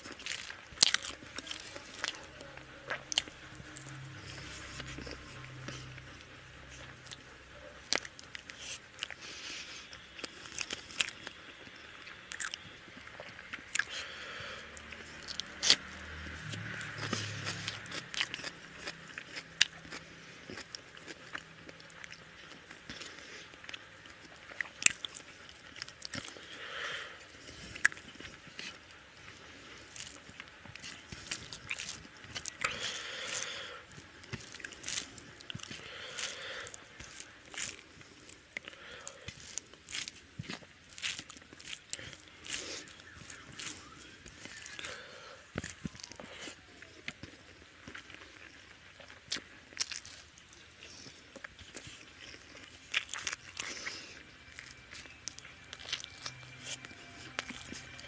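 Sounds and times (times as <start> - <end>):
man chewing with wet smacks: 0.0 - 58.0.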